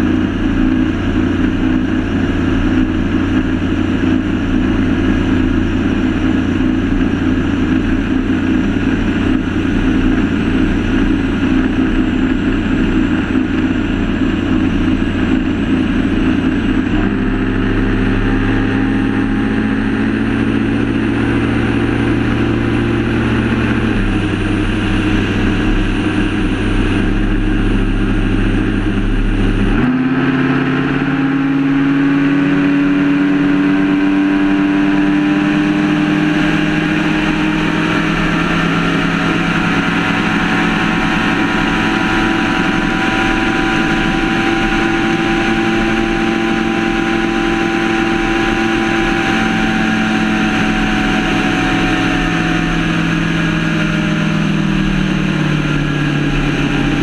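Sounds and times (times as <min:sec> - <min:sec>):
outboard engine drone: 0:00.0 - 0:57.0.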